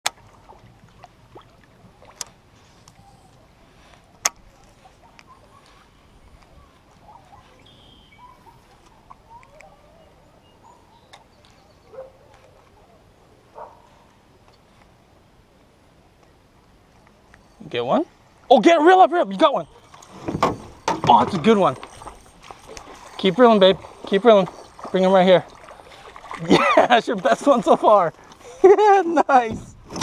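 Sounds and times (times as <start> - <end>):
birds chirping: 2.6 - 29.4.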